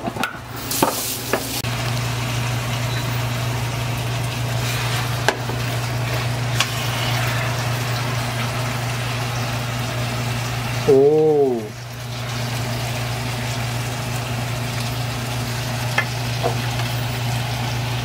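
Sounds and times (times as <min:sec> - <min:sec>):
stir-fry sizzling in a frying pan: 0:00.1 - 0:18.0.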